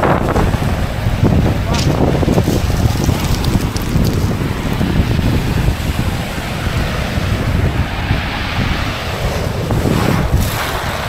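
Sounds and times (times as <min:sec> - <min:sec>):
wind buffeting microphone: 0:00.0 - 0:11.0
waves breaking on shingle: 0:00.1 - 0:07.2, 0:08.2 - 0:11.0.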